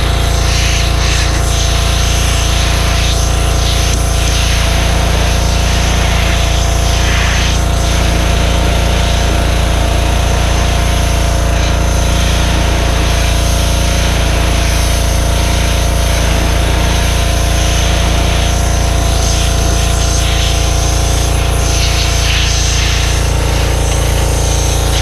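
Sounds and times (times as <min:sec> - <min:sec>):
high-pressure water spray hiss: 0:00.0 - 0:25.0
pressure washer engine running: 0:00.0 - 0:25.0.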